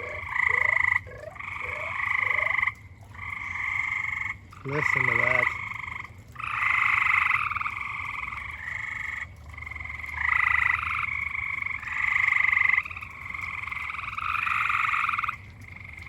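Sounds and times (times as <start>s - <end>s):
frogs trilling: 0.0s - 16.0s.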